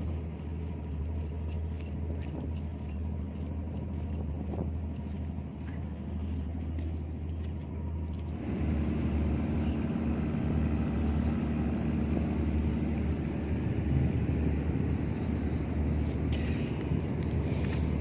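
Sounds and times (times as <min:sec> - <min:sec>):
ship machinery hum: 0:00.0 - 0:18.0.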